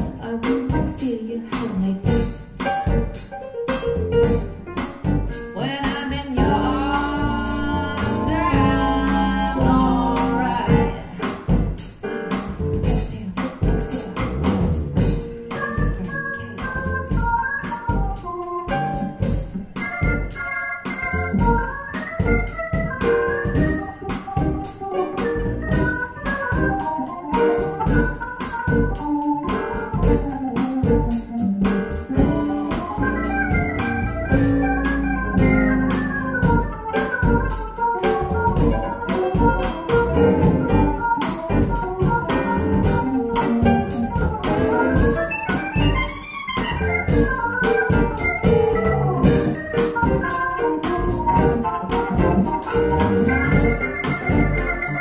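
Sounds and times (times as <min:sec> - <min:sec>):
instrumental music from speakers: 0:00.0 - 0:55.0.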